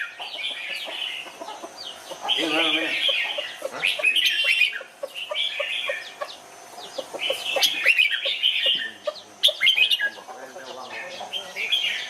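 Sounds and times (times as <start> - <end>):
bird chirping and calling: 0.0 - 12.0.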